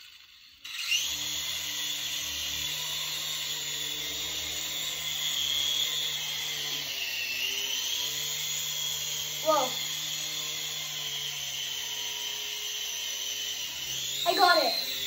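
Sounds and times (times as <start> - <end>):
toy helicopter motor whining: 0.0 - 15.0.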